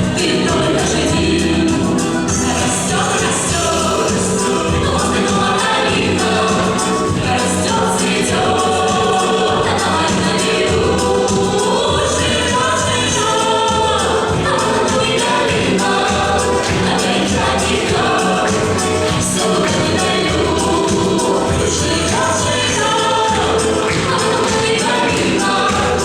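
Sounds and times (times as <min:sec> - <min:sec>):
choir singing folk-dance song: 0:00.0 - 0:26.0.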